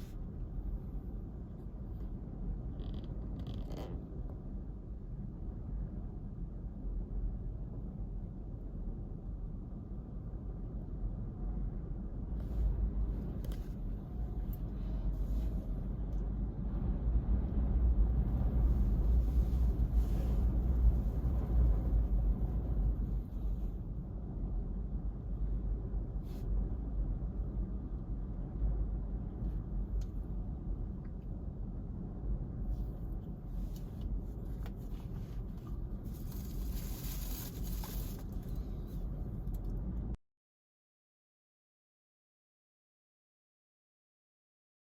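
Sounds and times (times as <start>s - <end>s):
wind rumble on microphone: 0.0s - 40.2s.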